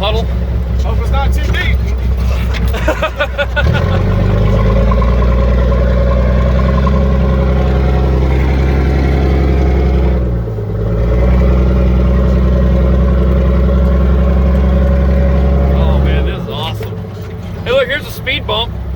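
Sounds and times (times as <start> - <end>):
diesel truck engine running: 0.0 - 18.9.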